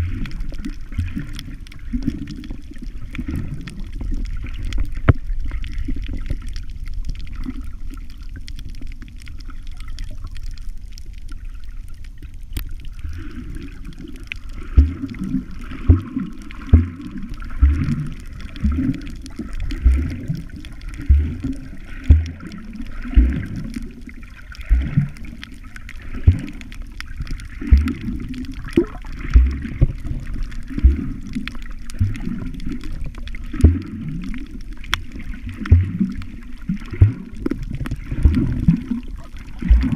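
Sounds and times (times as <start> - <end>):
underwater swishing and gurgling: 0.0 - 39.9.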